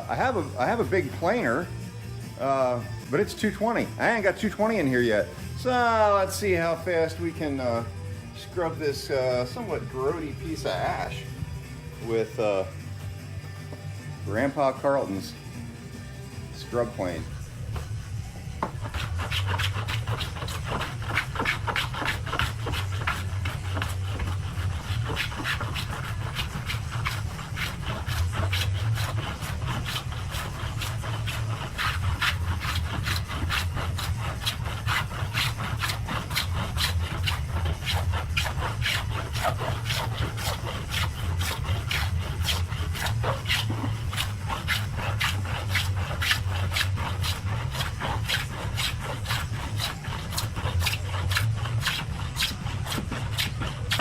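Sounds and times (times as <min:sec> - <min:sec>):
hand plane rasping across wood: 0:00.0 - 0:01.6, 0:02.4 - 0:11.3, 0:16.6 - 0:18.0, 0:18.6 - 0:54.0.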